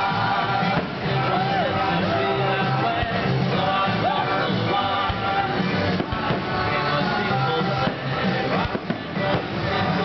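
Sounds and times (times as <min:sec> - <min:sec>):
rock song with singer: 0:00.0 - 0:10.0.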